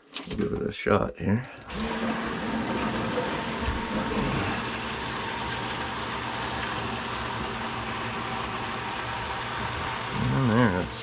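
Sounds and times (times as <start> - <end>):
submersible pump humming: 1.6 - 11.0.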